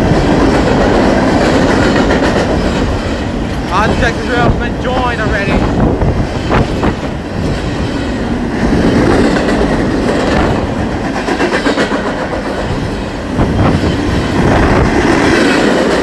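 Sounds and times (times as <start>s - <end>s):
freight train wheels rumbling: 0.0s - 16.0s
wheels clacking on rail joints: 0.0s - 16.0s.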